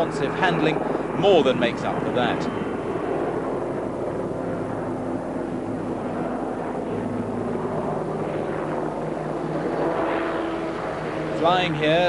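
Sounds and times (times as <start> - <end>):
helicopter rotor and turbines: 0.0 - 12.0.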